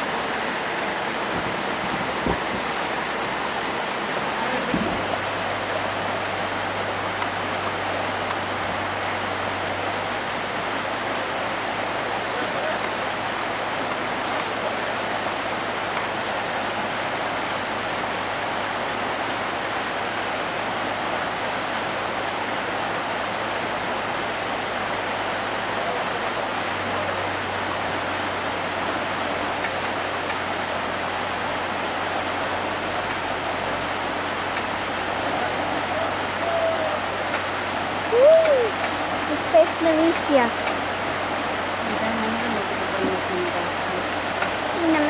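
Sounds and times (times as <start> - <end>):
river water rushing over rocks: 0.0 - 45.0.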